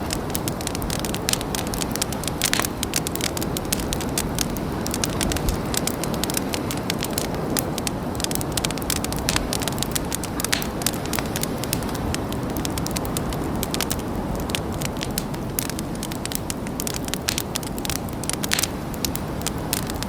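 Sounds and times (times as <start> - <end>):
campfire crackling and popping: 0.0 - 20.0
fire low rush: 0.0 - 20.0.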